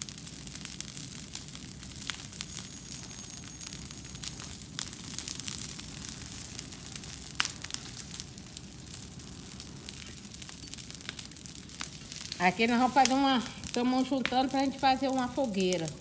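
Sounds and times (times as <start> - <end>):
brush fire crackling and popping: 0.0 - 16.0.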